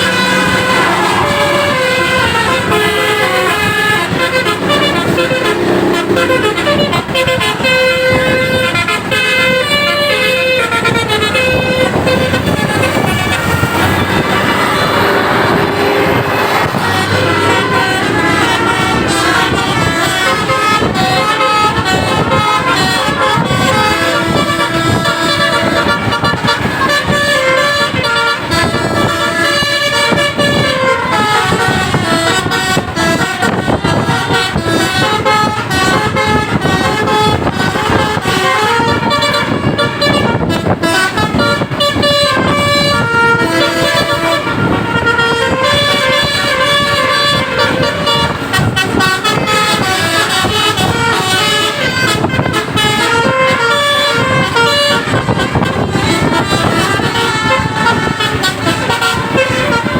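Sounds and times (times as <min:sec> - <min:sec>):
bus engine and road noise: 0:00.0 - 0:59.9
musical bus horns playing tunes: 0:00.0 - 0:59.9.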